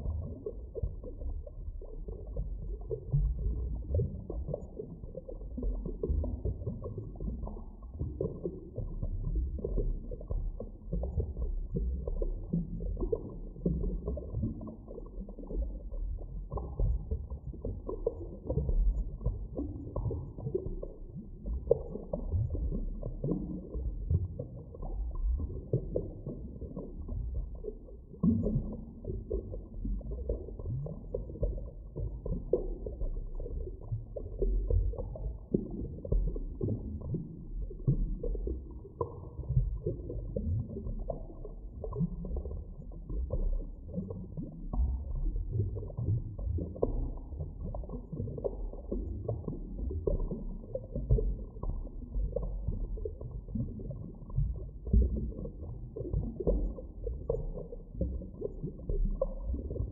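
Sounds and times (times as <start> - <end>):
muffled underwater rumble: 0.0 - 59.9
underwater gurgles: 0.0 - 59.9.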